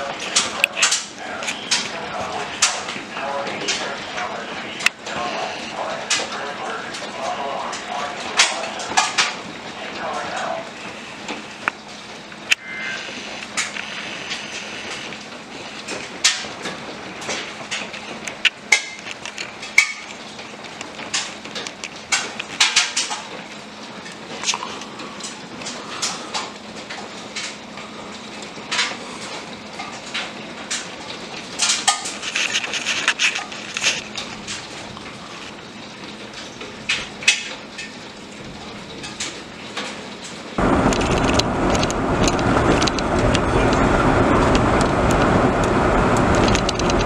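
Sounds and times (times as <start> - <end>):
hiss of falling precipitation: 0.0 - 19.4, 20.4 - 47.0.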